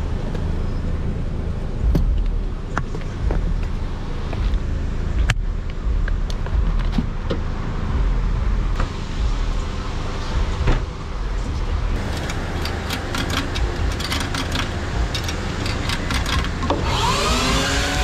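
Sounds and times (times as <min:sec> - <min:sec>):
car rumbling: 0:00.0 - 0:18.0.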